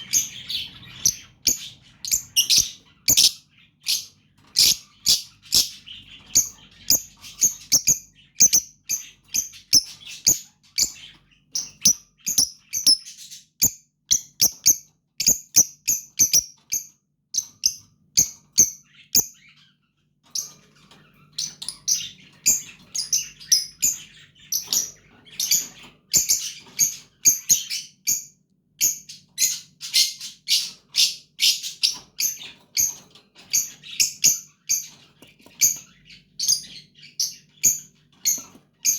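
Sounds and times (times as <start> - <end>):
bird chicks chirping: 0.0 - 38.9.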